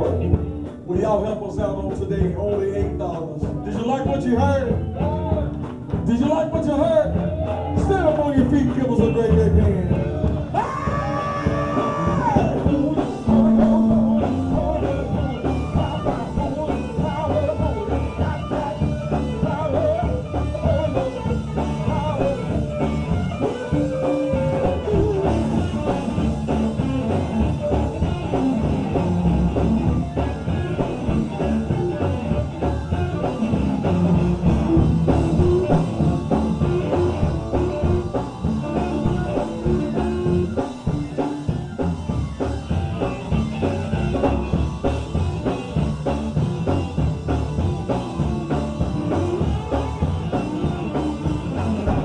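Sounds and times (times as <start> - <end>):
live gospel band playing: 0.0 - 52.0.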